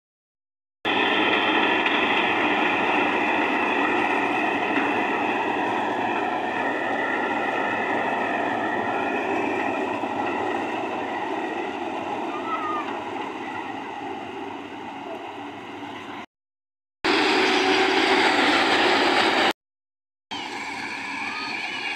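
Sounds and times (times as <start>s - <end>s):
combine harvester engine and threshing: 0.9s - 16.2s, 17.1s - 19.5s, 20.3s - 21.9s
high machinery whine: 0.9s - 16.2s, 17.1s - 19.5s, 20.3s - 21.9s.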